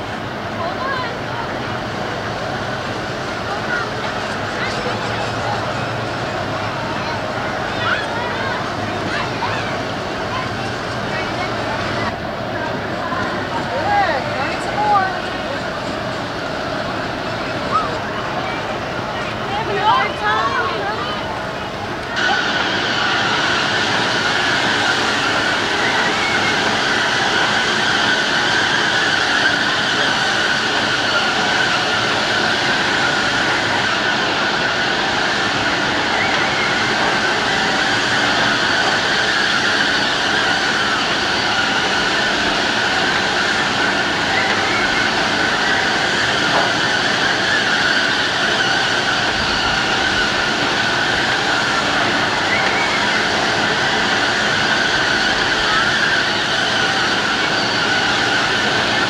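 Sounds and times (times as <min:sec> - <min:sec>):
carousel mechanical rumble: 0:00.0 - 0:59.0
wavering high whine: 0:00.0 - 0:59.0.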